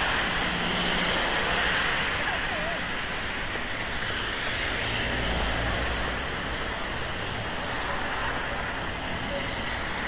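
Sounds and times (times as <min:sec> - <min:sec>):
low traffic rumble: 0:00.0 - 0:10.0
rain falling on street: 0:00.0 - 0:10.0.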